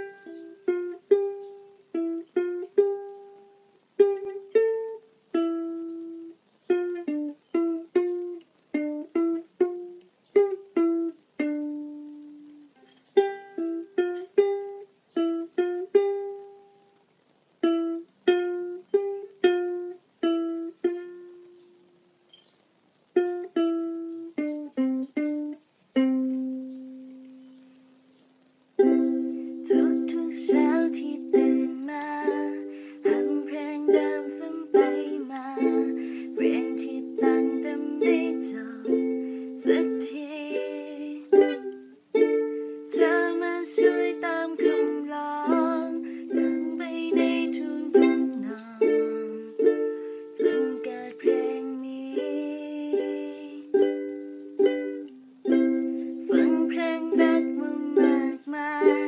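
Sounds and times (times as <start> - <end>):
plucked string instrument melody: 0.0 - 17.0, 17.6 - 22.5, 23.1 - 59.0.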